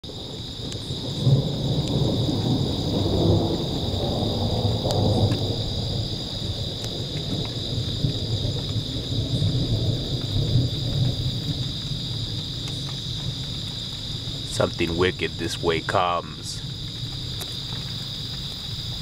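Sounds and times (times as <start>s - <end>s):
rain falling: 0.0s - 19.0s
thunder rumbling: 0.1s - 18.2s.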